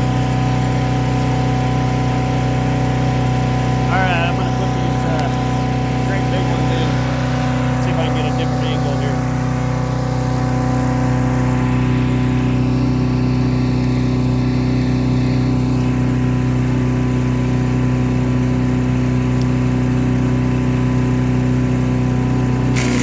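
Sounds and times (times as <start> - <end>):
chipper shredder engine running: 0.0 - 23.0.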